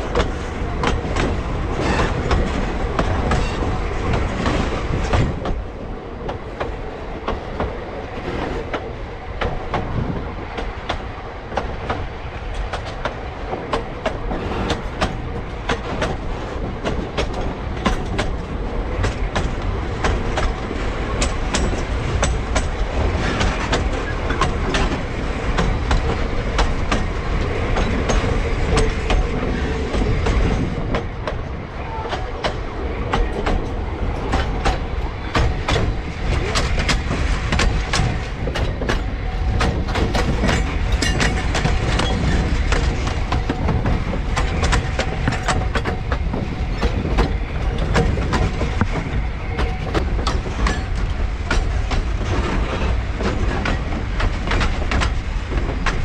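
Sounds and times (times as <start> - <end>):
steam train rumbling: 0.0 - 56.0
wheels clattering over rail joints: 0.0 - 56.0.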